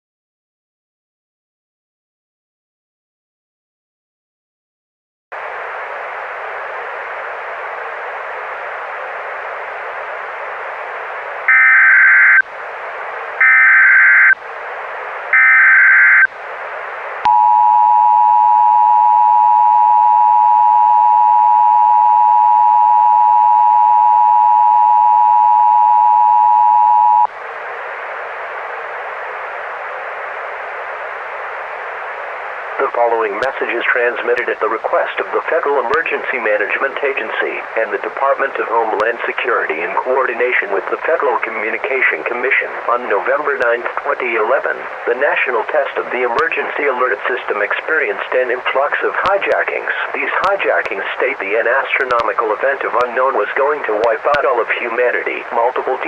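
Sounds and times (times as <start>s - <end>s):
radio static hiss: 5.4s - 56.0s.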